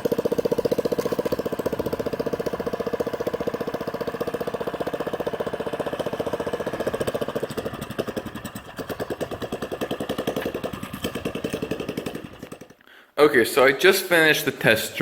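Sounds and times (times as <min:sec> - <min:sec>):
single-cylinder engine running: 0:00.0 - 0:12.8.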